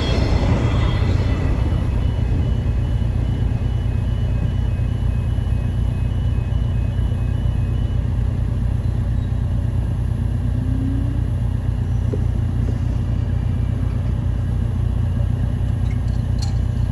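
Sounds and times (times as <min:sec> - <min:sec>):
car engine idling: 0:00.0 - 0:16.9
two-tone crossing alarm beeping: 0:00.0 - 0:16.9.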